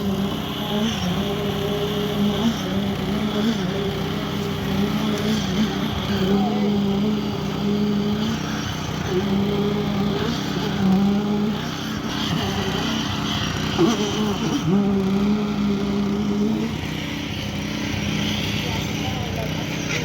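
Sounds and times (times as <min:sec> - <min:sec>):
concrete pump engine running: 0:00.0 - 0:20.0.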